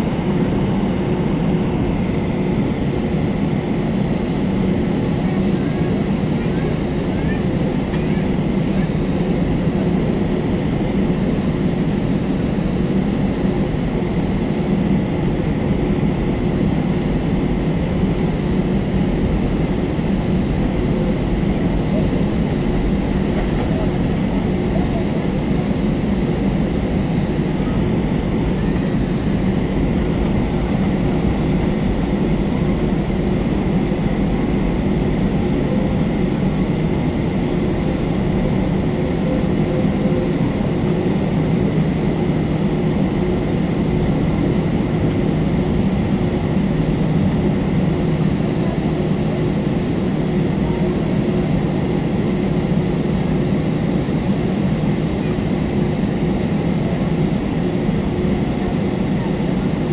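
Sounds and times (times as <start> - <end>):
aircraft cabin engine drone: 0.0 - 59.9
high engine whine: 0.0 - 59.9.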